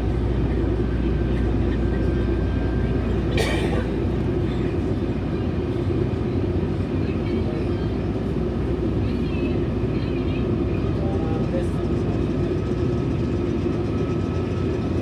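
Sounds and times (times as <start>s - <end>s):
train rumble inside passenger car: 0.0s - 15.0s.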